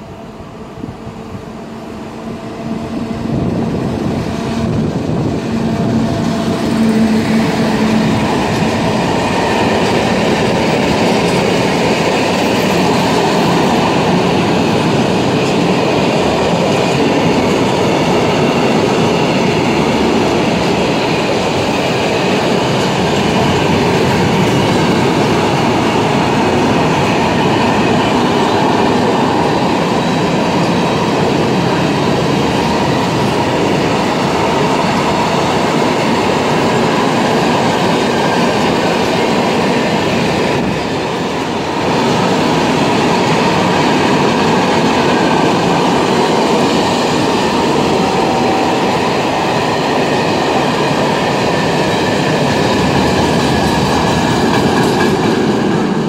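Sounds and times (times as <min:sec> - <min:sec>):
electric locomotive hum: 0:00.0 - 0:56.0
train wheels rumbling on rails: 0:00.0 - 0:56.0.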